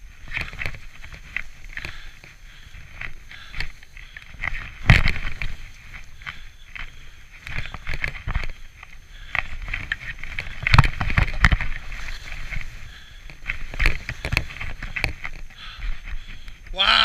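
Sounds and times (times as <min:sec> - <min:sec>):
skis sliding through snow: 0:00.0 - 0:16.9.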